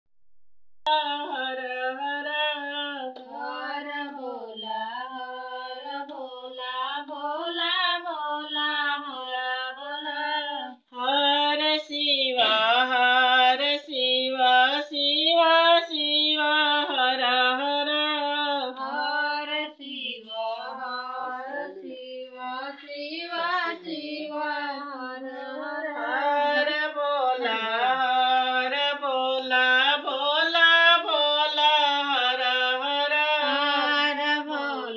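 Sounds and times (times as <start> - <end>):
woman singing devotional song: 0.9 - 34.9.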